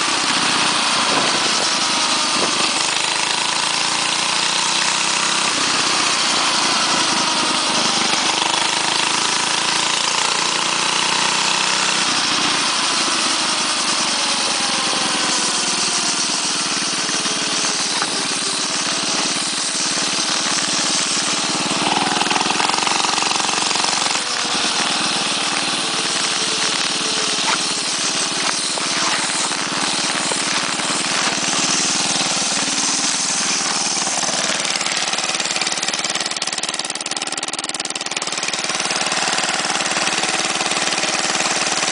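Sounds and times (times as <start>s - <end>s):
mini bike engine revving: 0.0s - 41.9s.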